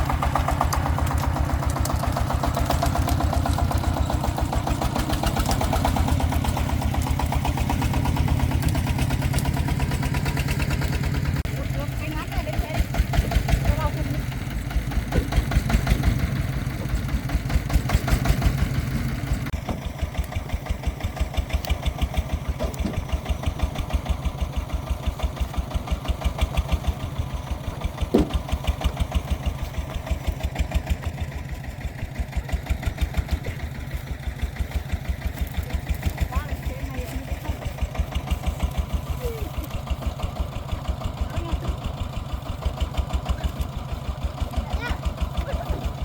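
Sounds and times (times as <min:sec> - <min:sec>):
diesel engine chugging: 0:00.0 - 0:46.0.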